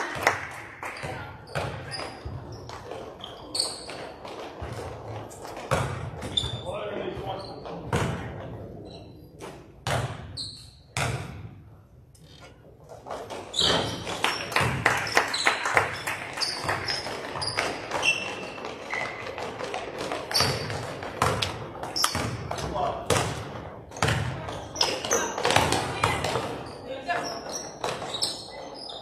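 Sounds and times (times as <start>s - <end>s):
sneakers squeaking: 0.9s - 8.2s, 8.8s - 11.5s, 12.2s - 29.0s
basketball bouncing on gym floor: 1.0s - 8.5s, 9.4s - 11.6s, 13.1s - 15.2s, 15.8s - 28.3s.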